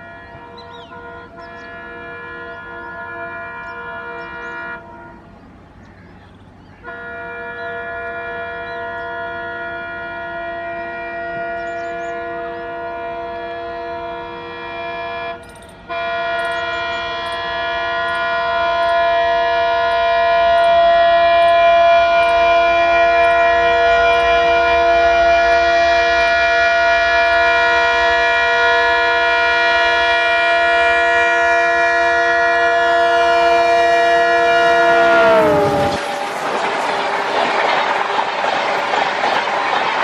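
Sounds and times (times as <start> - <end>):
locomotive air horn blast: 0.0 - 5.4, 6.8 - 38.4
train rumbling: 0.0 - 40.0.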